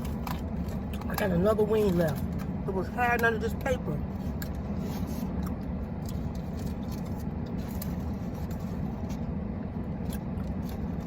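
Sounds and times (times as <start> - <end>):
car engine hum from inside: 0.0 - 11.0.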